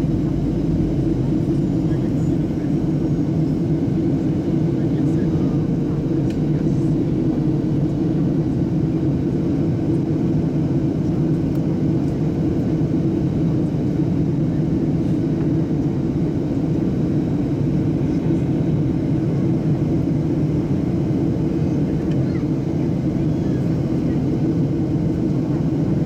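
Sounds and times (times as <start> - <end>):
airliner cabin drone: 0.0 - 26.0.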